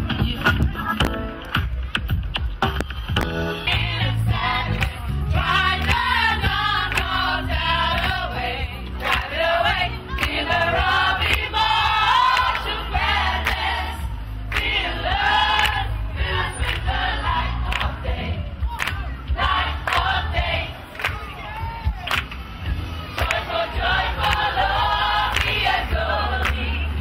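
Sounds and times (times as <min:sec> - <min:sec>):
music with singing voices: 0:00.0 - 0:27.0.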